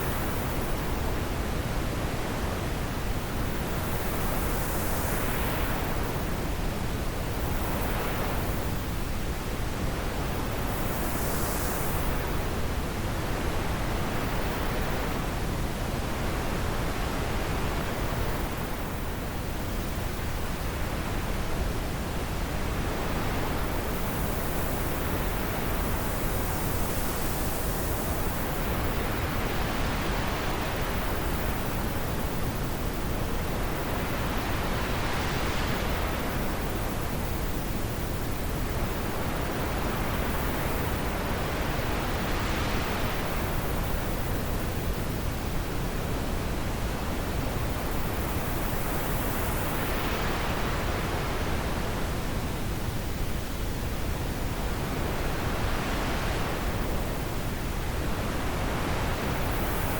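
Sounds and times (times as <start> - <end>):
wind blowing in gusts: 0.0 - 59.9.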